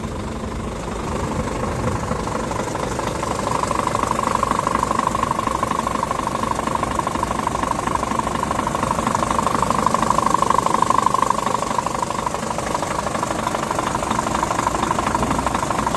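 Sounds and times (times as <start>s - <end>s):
diesel truck engine idling: 0.0s - 15.9s.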